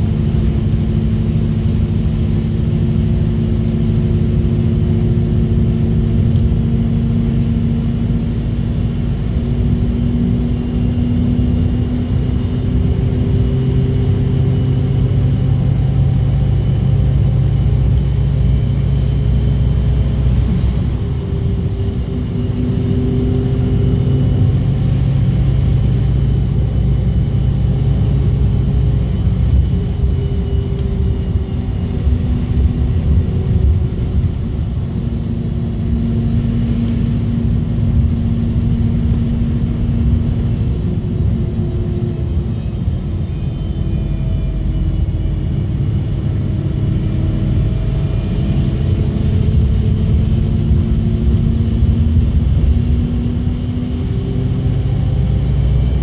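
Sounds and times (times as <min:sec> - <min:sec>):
bus engine rumble: 0:00.0 - 0:56.0
road noise: 0:00.0 - 0:56.0
humming tones: 0:01.6 - 0:56.0.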